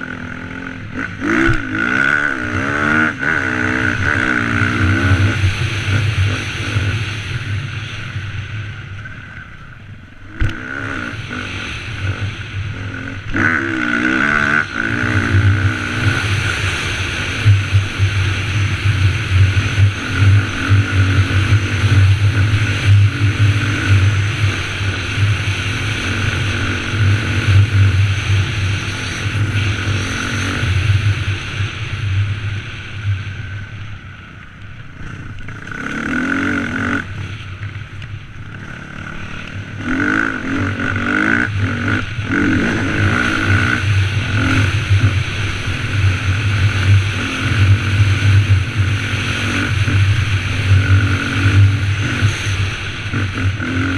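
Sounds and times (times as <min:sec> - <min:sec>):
dirt bike engine revving: 0:00.0 - 0:33.3, 0:34.9 - 0:53.9.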